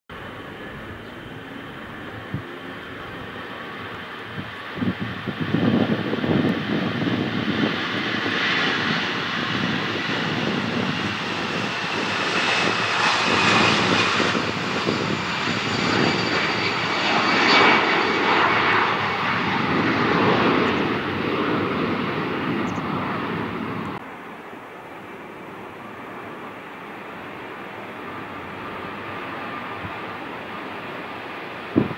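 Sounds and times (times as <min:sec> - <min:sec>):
jet engines roaring: 0:00.1 - 0:31.9.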